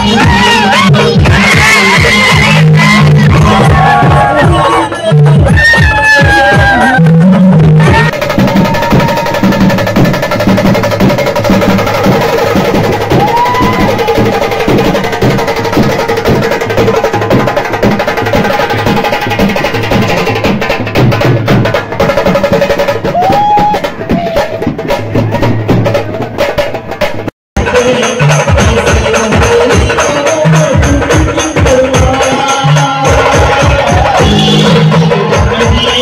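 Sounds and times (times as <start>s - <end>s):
band playing drum-driven dance music: 0.0s - 36.0s.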